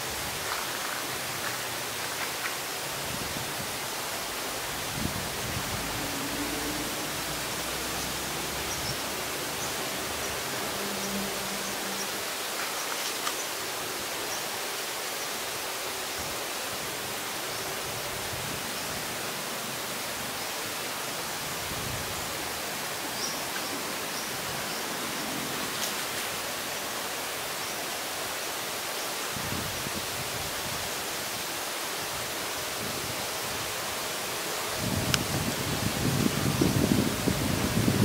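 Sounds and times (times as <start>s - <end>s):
outdoor ambience hiss: 0.0s - 38.0s.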